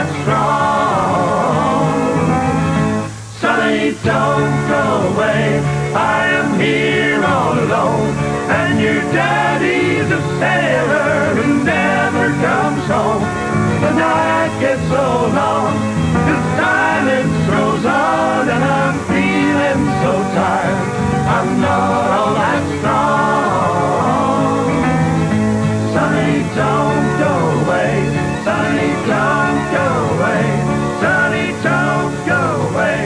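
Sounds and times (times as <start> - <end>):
country folk ballad by a band: 0.0 - 33.0.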